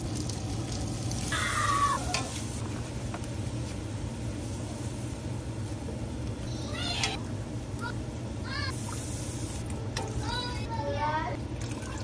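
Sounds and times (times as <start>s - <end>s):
sauce sizzling in a pot: 0.0s - 10.7s
steady low hum: 0.0s - 12.0s.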